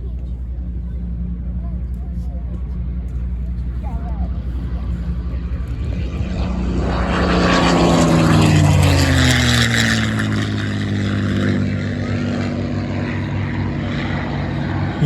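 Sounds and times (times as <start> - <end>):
propeller plane engine flyby: 0.0 - 15.0.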